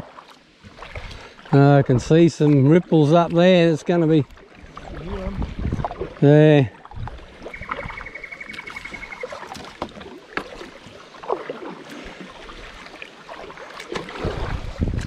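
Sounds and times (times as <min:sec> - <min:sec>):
paddle splashes and knocks: 0:00.0 - 0:15.0
water trickling around hull: 0:00.0 - 0:15.0.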